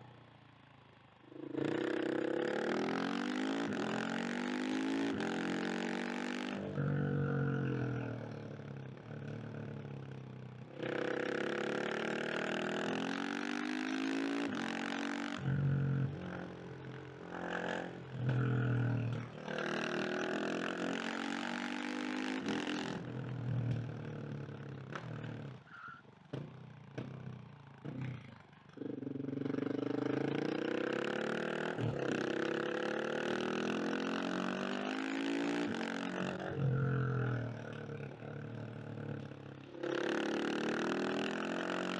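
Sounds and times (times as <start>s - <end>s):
motorcycle engine revving: 0.8s - 41.9s.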